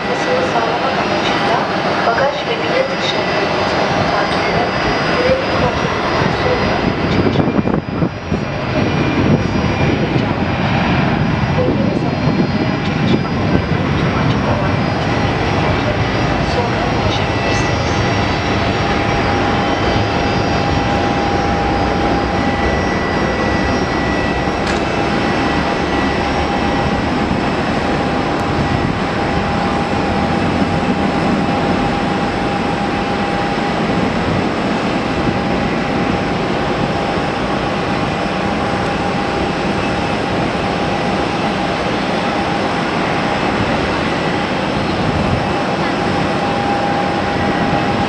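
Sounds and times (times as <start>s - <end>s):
jet engines at takeoff thrust: 0.0s - 48.0s.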